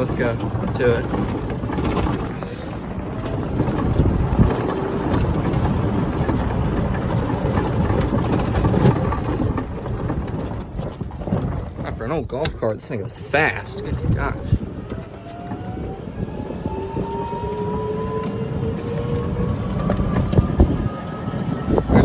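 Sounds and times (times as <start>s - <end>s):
golf cart driving: 0.0s - 22.0s
knocks and rattles: 0.0s - 22.0s.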